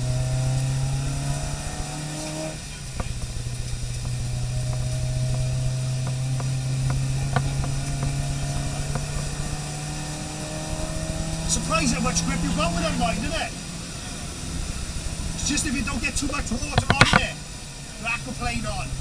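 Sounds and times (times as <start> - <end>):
car engine from inside cabin: 0.0 - 19.0.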